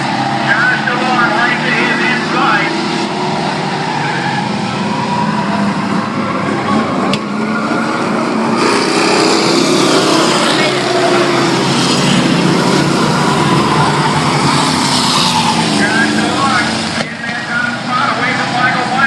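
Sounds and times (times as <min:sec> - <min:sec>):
race truck engines: 0:00.0 - 0:19.0.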